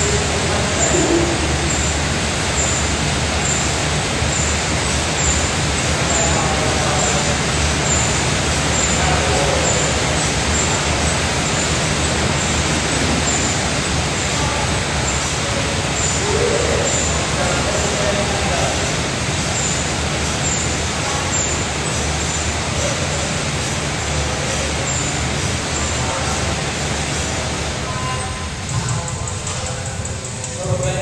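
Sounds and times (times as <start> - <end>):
faint voices: 0.0 - 31.0
loud rushing noise: 0.0 - 31.0.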